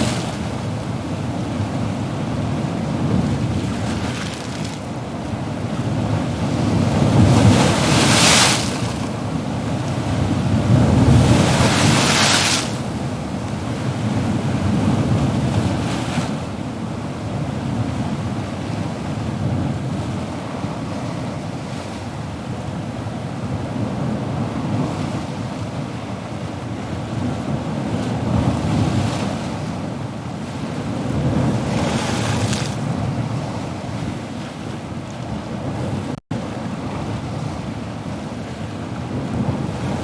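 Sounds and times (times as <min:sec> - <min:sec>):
ocean waves breaking: 0:00.0 - 0:16.6, 0:24.2 - 0:40.0.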